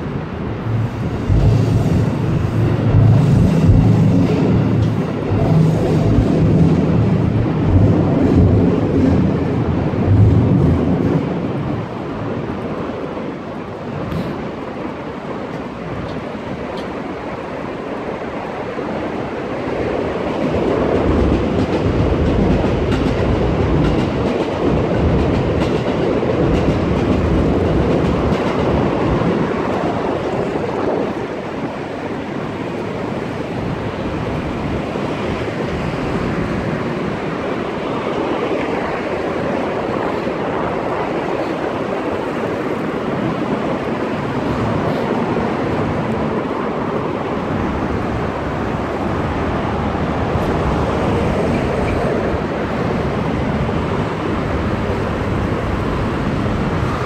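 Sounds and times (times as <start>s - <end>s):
train rumbling on viaduct: 0.0s - 57.0s.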